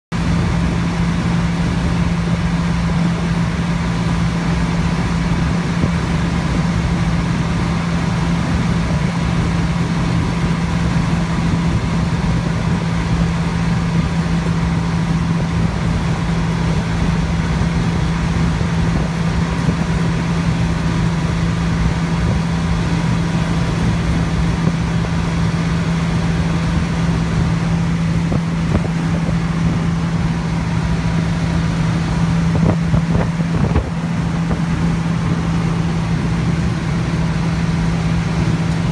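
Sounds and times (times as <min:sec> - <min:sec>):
truck cab engine and road noise: 0:00.1 - 0:38.9.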